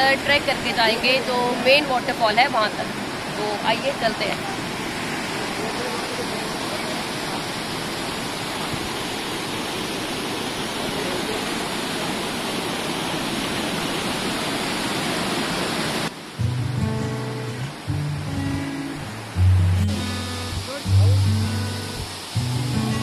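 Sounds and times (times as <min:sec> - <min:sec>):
waterfall over rocks: 0:00.0 - 0:23.0.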